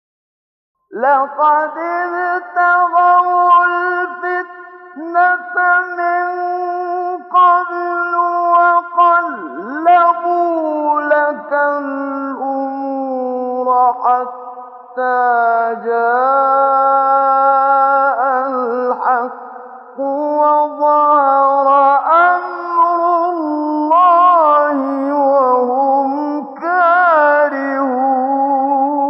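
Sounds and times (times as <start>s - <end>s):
man reciting melodically: 0.9s - 29.0s.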